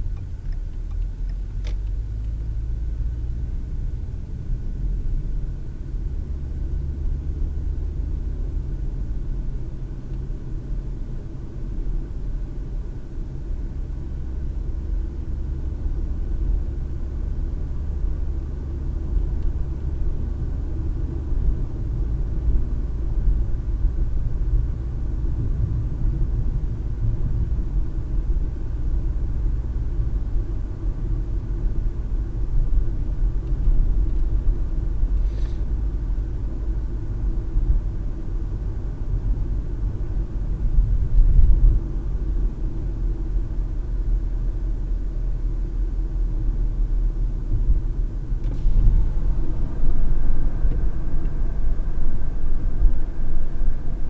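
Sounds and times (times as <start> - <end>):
car driving road and engine noise: 0.0 - 54.0.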